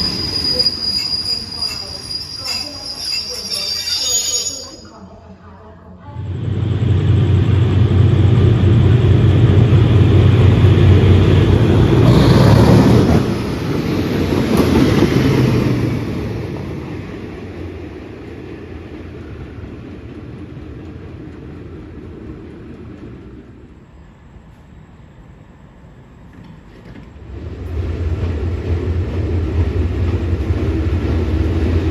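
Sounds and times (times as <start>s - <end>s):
diesel train passing: 0.0s - 31.9s
wheels rumbling on rails: 6.0s - 31.9s.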